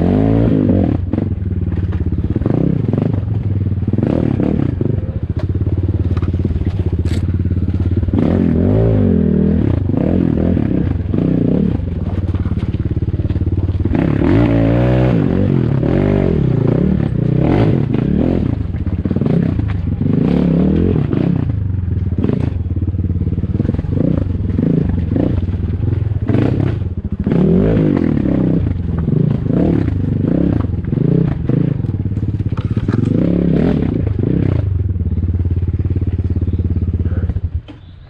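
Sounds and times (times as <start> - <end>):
motorcycle engine revving: 0.0 - 38.0
clatter: 0.6 - 8.8, 9.6 - 37.9.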